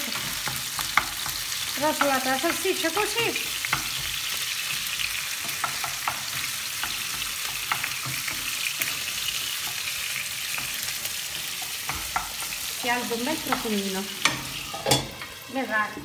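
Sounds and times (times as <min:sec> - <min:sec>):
sausage sizzling in oil: 0:00.0 - 0:16.0
wooden spoon scraping and tapping pan: 0:00.1 - 0:16.0.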